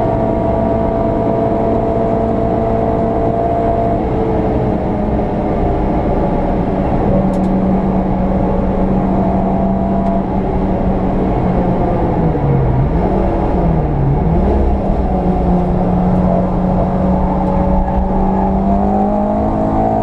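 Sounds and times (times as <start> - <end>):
car engine running hard: 0.0 - 20.0
road and tyre noise: 0.0 - 20.0.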